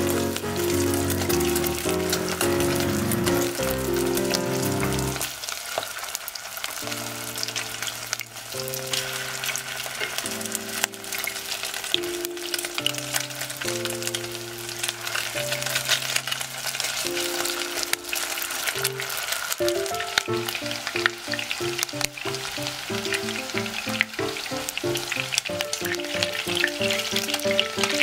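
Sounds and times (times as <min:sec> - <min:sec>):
oil sizzling and crackling: 0:00.0 - 0:28.0.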